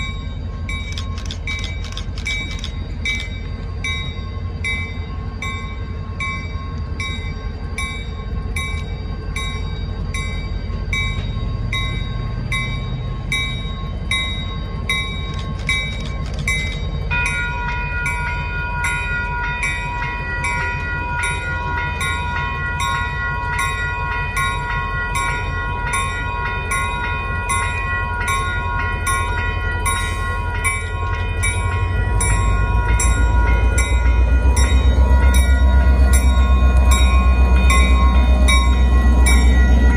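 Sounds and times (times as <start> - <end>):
locomotive bell ringing: 0.0 - 39.9
locomotive engine rumble: 0.0 - 39.9.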